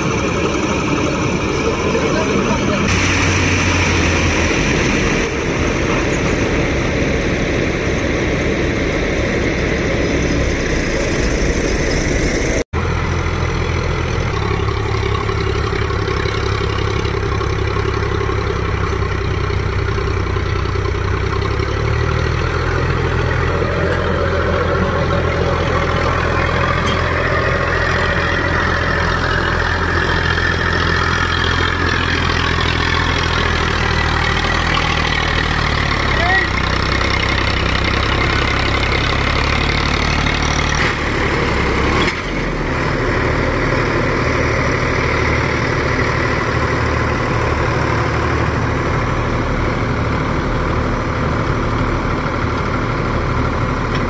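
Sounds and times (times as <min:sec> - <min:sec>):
combine harvester engine: 0:00.0 - 0:54.0
tractor diesel engine under load: 0:00.0 - 0:54.0.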